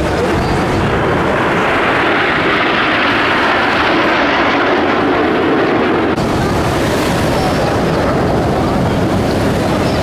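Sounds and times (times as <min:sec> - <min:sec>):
jet roar overhead: 0:00.0 - 0:10.0.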